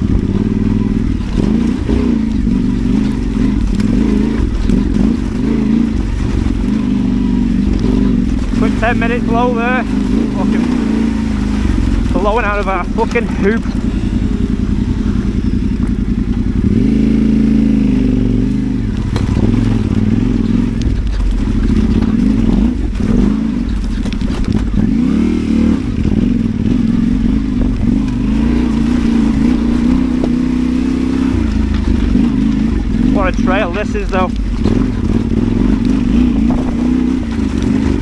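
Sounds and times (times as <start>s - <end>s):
motorcycle engine at low revs: 0.0s - 38.0s.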